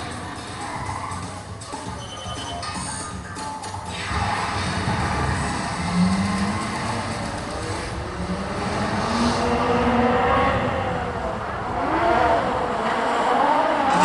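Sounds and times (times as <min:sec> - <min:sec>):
vehicle engines revving: 0:00.0 - 0:02.0, 0:02.8 - 0:14.0.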